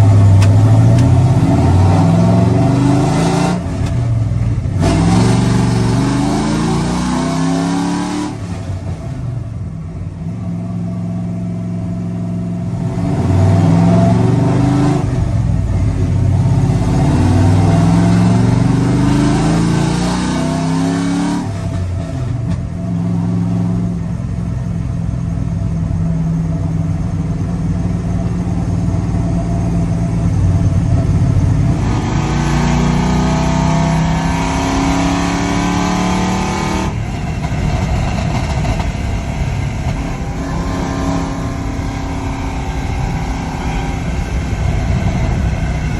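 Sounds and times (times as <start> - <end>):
loud truck exhaust shifting gears: 0.0 - 45.9.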